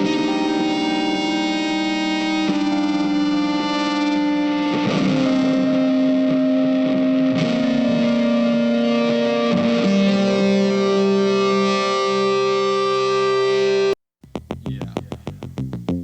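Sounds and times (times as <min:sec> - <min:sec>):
guitar long held notes: 0:00.0 - 0:16.0
strummed guitar chords: 0:00.0 - 0:16.0.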